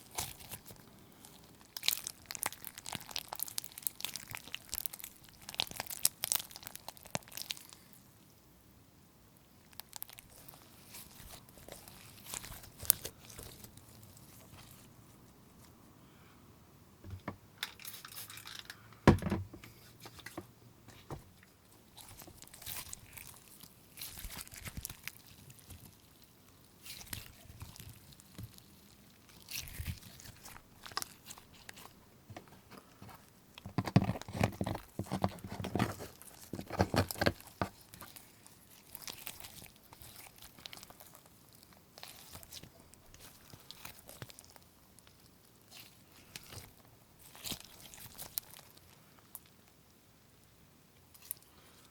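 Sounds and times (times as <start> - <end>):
slime crackling and squishing: 0.0 - 8.2, 9.5 - 15.7, 20.9 - 49.8, 50.4 - 51.9.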